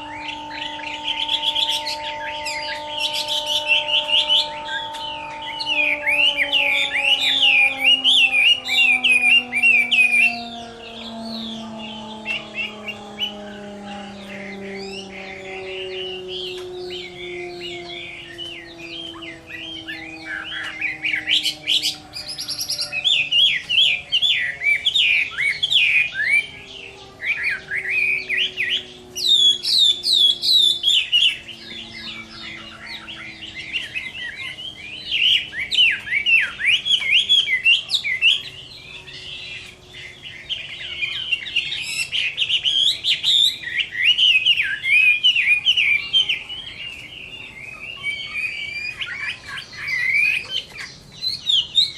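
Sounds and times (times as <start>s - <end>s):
bird singing whistled notes: 0.0s - 51.9s.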